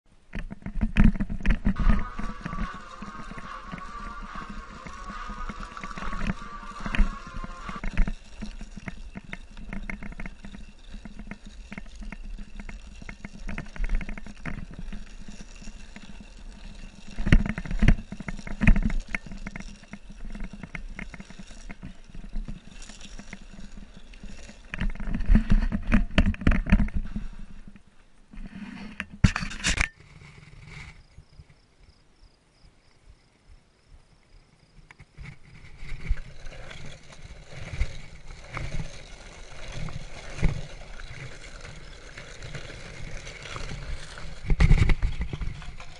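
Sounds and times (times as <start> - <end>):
longboard wheels rolling on dirt: 0.1 - 45.9
board clattering and tumbling: 0.3 - 27.8, 35.0 - 45.9.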